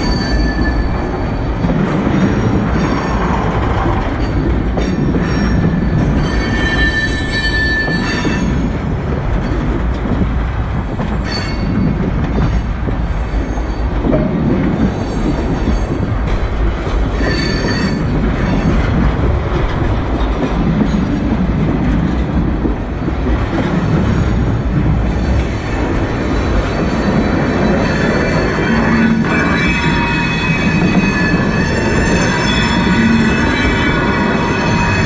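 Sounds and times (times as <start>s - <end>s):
steel wheels rumbling on rail: 0.0s - 35.0s.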